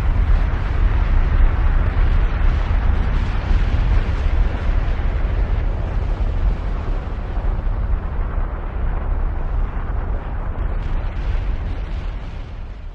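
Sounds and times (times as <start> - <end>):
deep rumbling: 0.0 - 12.9.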